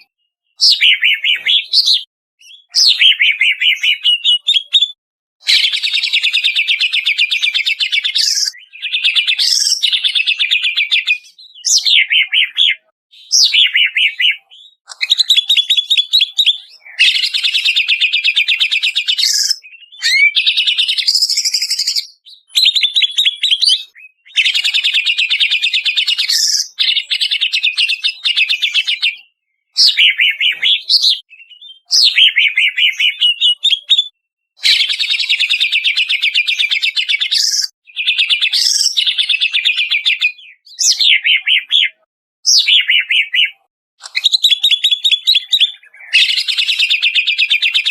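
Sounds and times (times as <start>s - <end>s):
songbird trilling and chattering: 0.0s - 47.9s.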